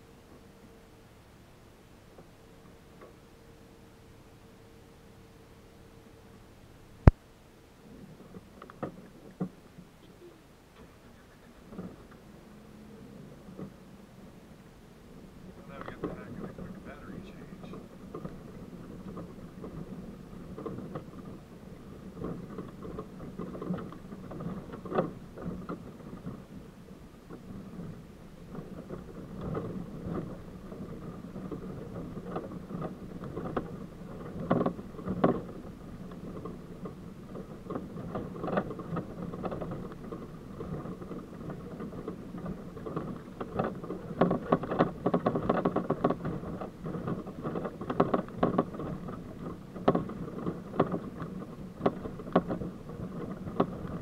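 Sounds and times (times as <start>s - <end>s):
vehicle engine running: 0.0s - 54.0s
knocks and rattles over rocks: 7.9s - 10.0s, 10.8s - 14.4s, 15.1s - 54.0s.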